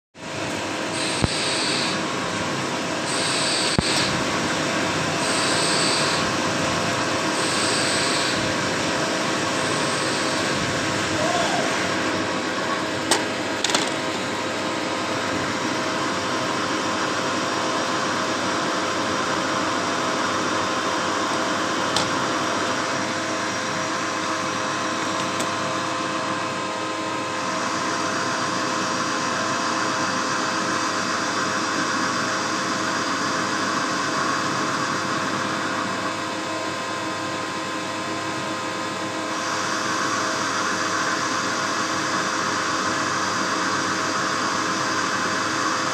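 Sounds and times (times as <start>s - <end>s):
cnc machine humming: 0.2s - 45.9s.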